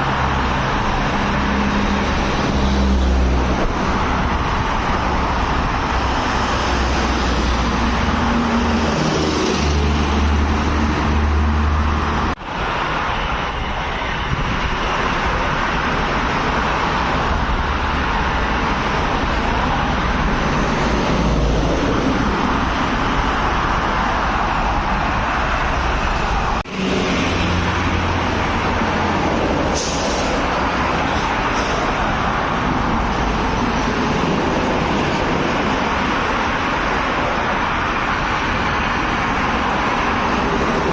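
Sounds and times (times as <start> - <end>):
truck engine drone: 0.0 - 40.9
tyre and road noise: 0.0 - 40.9.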